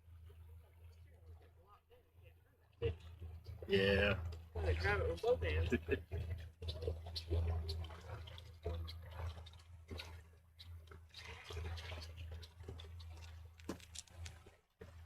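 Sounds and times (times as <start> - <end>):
water splashing against boat: 0.0 - 15.0.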